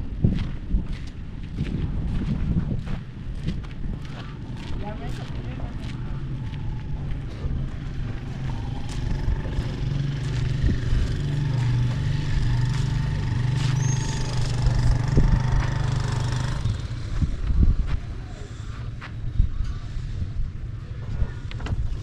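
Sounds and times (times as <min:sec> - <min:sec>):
engine humming: 0:03.0 - 0:22.0.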